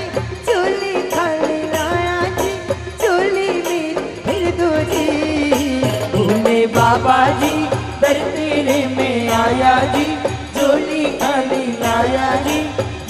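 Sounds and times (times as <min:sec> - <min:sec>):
hand drums beat: 0:00.0 - 0:13.0
woman singing into microphone: 0:00.0 - 0:13.0.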